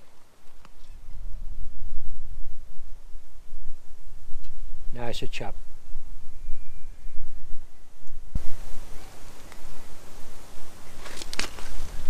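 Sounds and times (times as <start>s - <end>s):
faint hiss: 0.0s - 12.0s
wind buffeting microphone: 0.0s - 12.0s.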